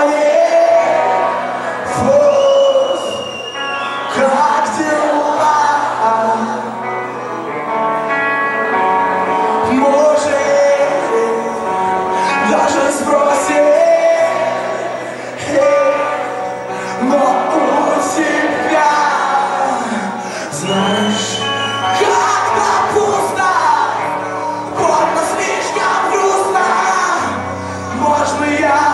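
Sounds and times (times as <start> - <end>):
person singing: 0.0 - 3.2, 4.0 - 8.1, 9.0 - 28.9
live rock band playing: 0.0 - 28.9.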